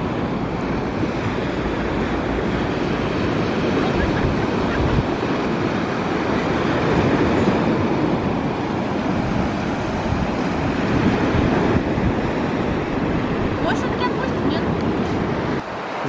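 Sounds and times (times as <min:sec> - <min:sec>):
sea surf breaking on shore: 0:00.0 - 0:16.0
wind on microphone: 0:00.0 - 0:16.0.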